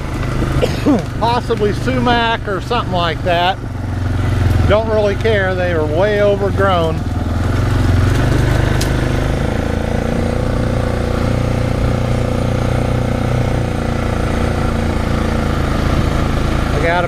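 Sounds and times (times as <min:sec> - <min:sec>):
engine and cutter drone: 0:00.0 - 0:17.0.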